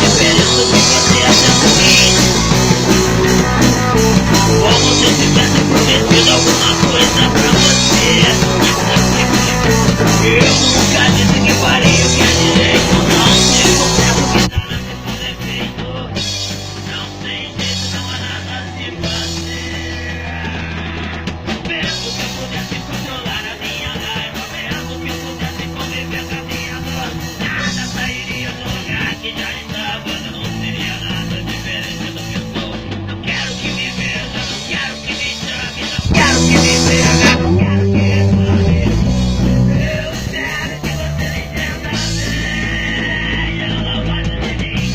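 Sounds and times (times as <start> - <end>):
rock music over sound system: 0.0 - 44.9.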